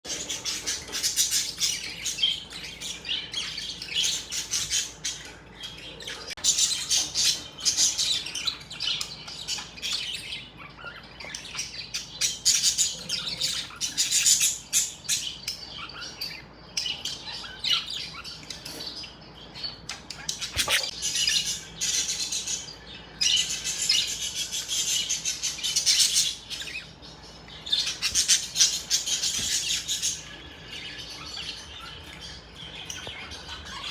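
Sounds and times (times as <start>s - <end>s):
budgerigars chirping and chattering: 0.1s - 33.9s.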